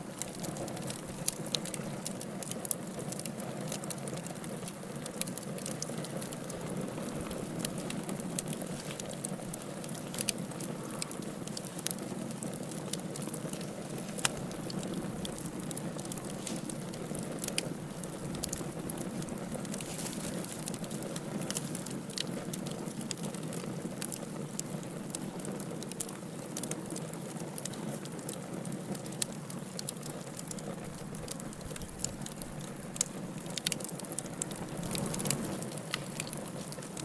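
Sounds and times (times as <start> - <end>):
low rumble of flames: 0.0 - 37.0
wood fire pops and snaps: 0.0 - 37.0.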